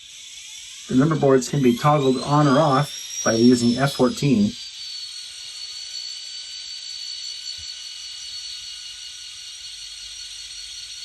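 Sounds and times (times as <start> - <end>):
model locomotive motor whine: 0.0 - 11.0.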